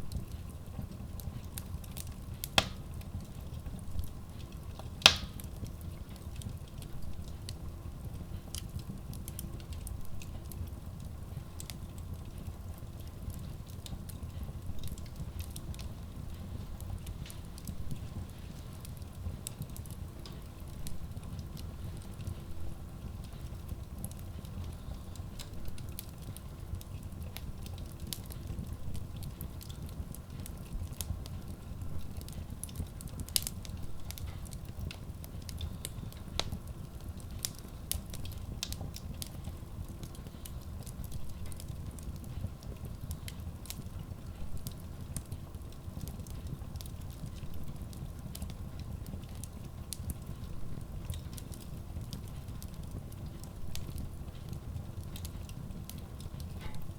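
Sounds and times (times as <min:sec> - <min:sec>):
stove low rumble: 0:00.0 - 0:56.9
wood logs crackling in stove: 0:00.0 - 0:56.9.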